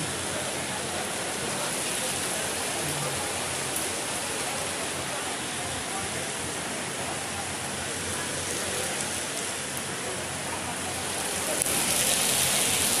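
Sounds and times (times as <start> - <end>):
heavy rain on road: 0.0 - 13.0.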